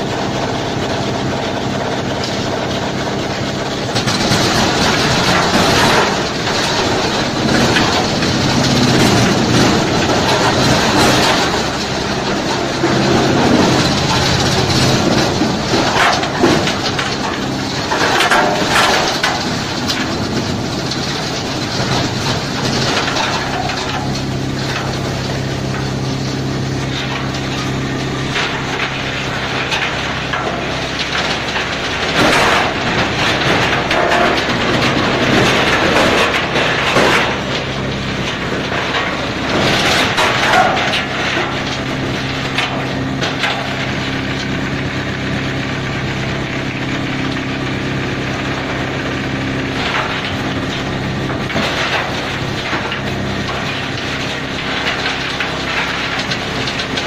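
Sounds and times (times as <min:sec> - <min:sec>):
root grinder machine hum: 0:00.0 - 0:57.0
wood cracking and crunching: 0:00.0 - 0:57.0.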